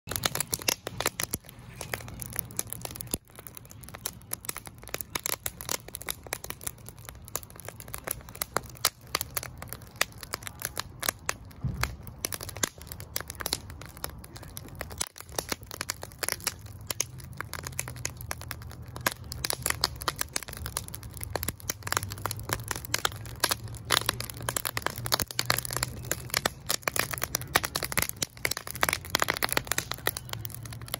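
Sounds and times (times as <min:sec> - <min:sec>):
wood fire crackling and popping: 0:00.1 - 0:30.9.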